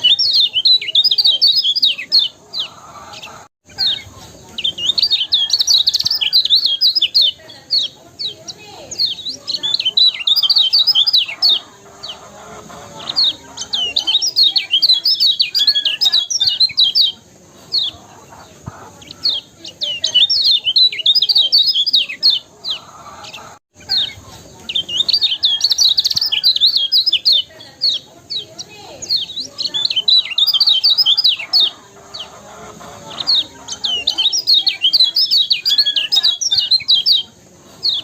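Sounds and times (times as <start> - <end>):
bird singing high chirps: 0.0 - 12.2, 12.8 - 32.3, 33.0 - 38.0.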